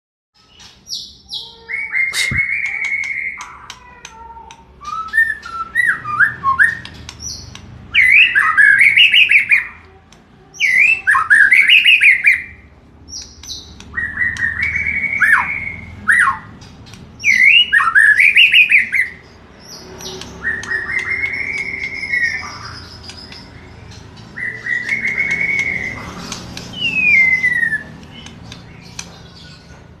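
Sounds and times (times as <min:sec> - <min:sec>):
bird warbling song: 0:00.4 - 0:09.9, 0:10.6 - 0:30.0.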